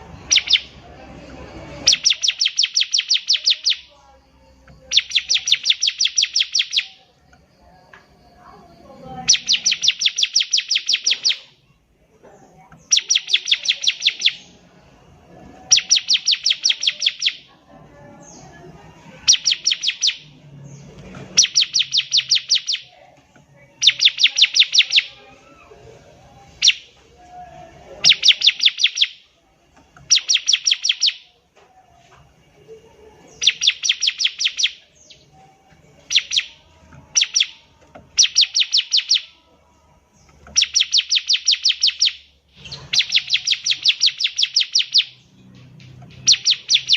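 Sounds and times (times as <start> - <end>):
bird singing rapid high notes: 0.0 - 7.7, 8.4 - 11.8, 12.7 - 17.6, 18.2 - 25.4, 26.4 - 27.0, 28.0 - 31.4, 33.3 - 39.4, 40.1 - 46.9.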